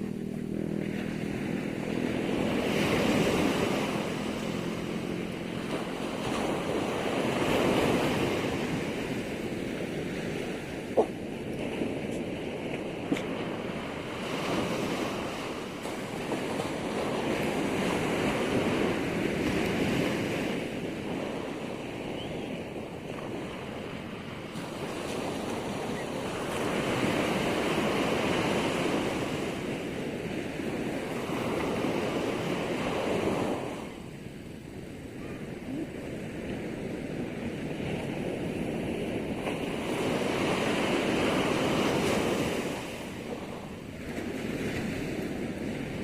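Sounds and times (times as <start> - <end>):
ocean waves breaking: 0.0 - 46.0
wind on the microphone: 0.0 - 46.0.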